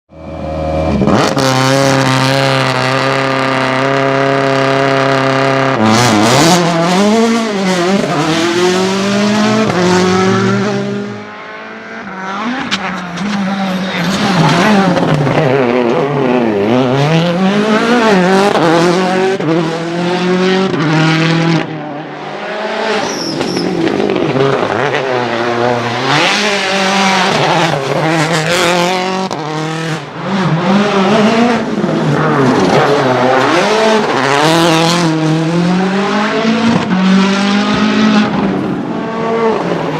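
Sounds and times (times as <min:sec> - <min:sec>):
rally car engine revving hard: 0:00.2 - 0:39.9.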